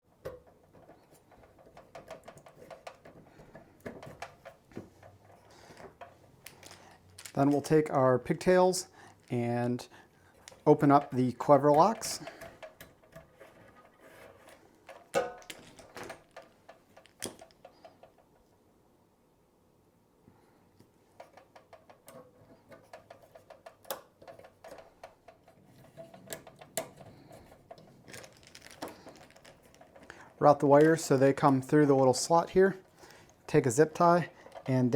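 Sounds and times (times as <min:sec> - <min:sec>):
small parts clicking and tapping: 0:00.1 - 0:18.5, 0:20.8 - 0:34.9.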